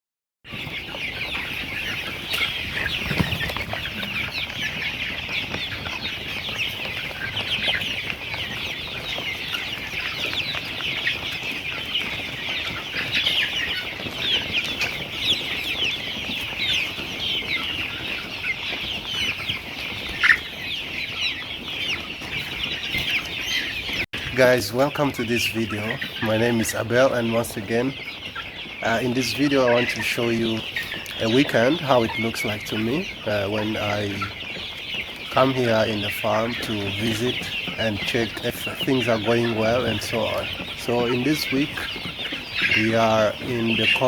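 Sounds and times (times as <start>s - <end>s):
hens chirping and clucking: 0.5s - 44.0s.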